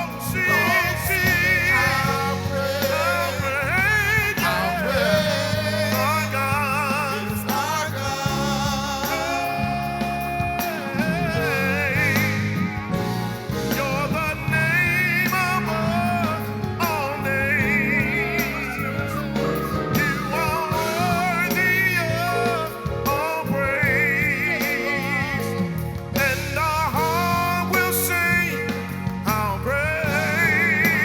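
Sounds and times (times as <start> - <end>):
band accompaniment: 0.0 - 31.0
person singing with vibrato: 0.0 - 31.0.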